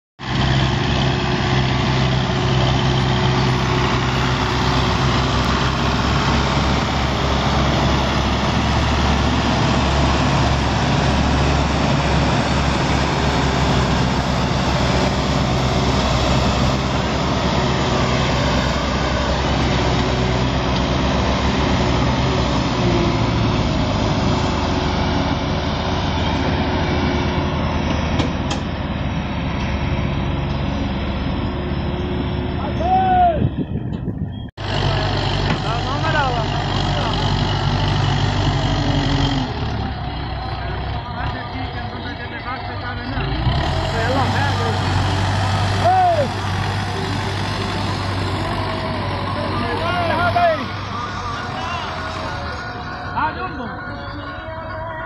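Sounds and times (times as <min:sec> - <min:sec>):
tractor diesel engines under load: 0:00.2 - 0:55.0.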